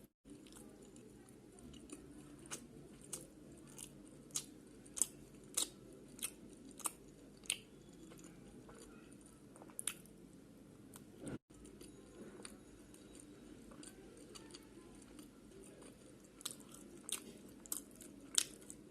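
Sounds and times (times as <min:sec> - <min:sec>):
chewing crunchy pizza crust: 0:00.3 - 0:10.2, 0:10.8 - 0:18.9.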